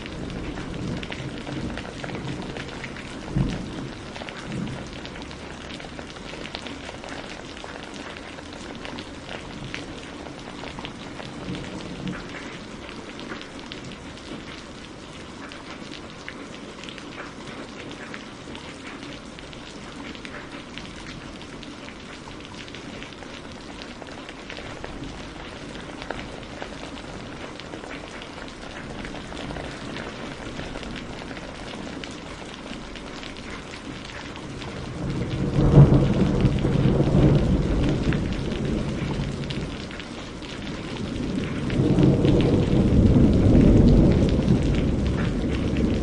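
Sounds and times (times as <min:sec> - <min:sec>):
steady rain with ticking drops: 0:00.0 - 0:46.0.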